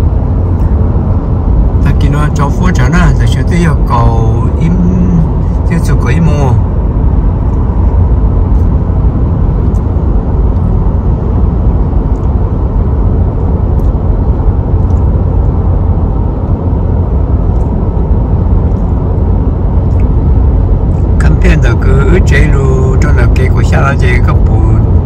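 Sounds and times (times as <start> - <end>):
car cabin low rumble: 0.0 - 25.0.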